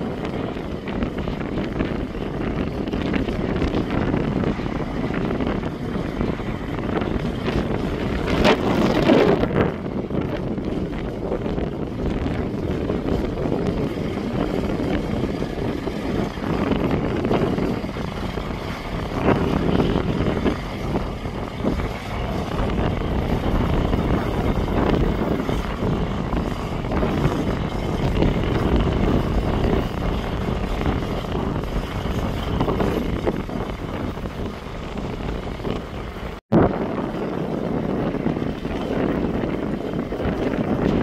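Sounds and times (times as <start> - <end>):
wind rumble on microphone: 0.0 - 41.0.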